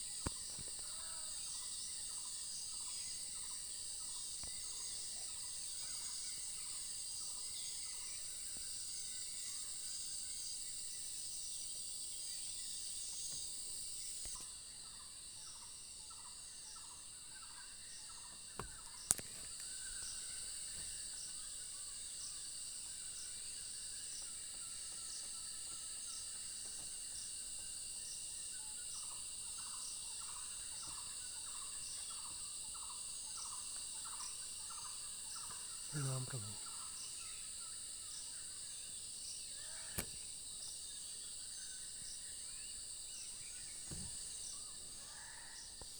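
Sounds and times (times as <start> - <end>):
insect drone: 0.0 - 45.9
short repeated insect call: 0.0 - 45.9.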